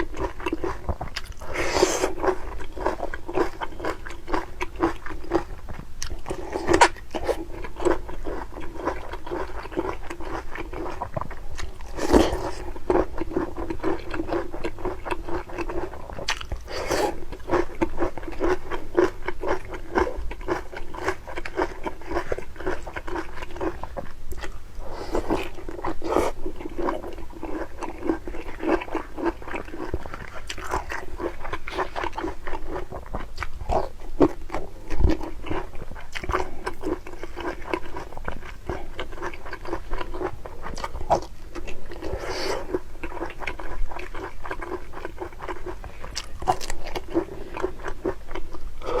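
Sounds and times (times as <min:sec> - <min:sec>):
chewing crunchy food: 0:00.0 - 0:49.0.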